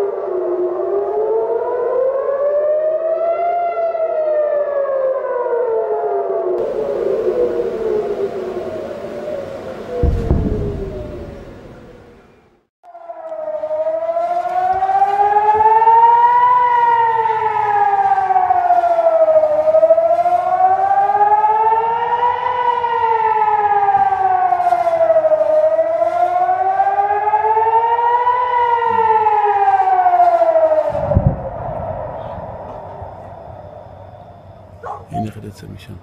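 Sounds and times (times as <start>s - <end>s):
siren wailing: 0.0s - 35.4s.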